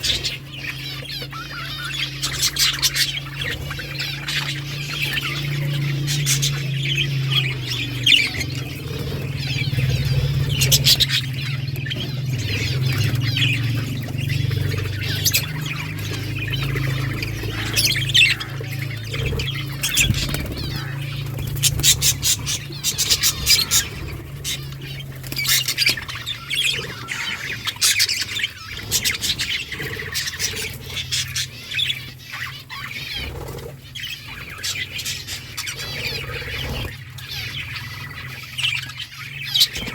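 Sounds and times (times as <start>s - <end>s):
low hum: 0.0s - 32.4s
budgerigars chattering: 0.0s - 39.9s.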